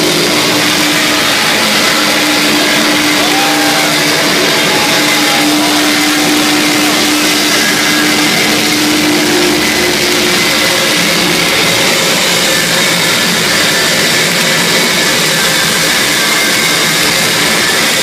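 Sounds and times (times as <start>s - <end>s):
distorted electric guitar noise: 0.0s - 18.0s.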